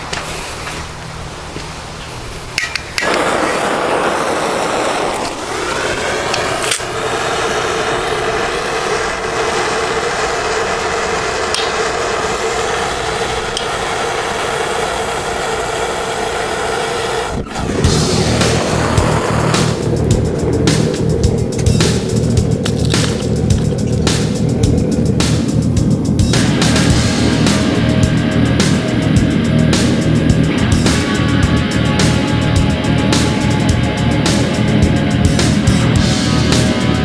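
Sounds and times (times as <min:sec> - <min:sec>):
foundry burner rushing: 0:00.0 - 0:37.0.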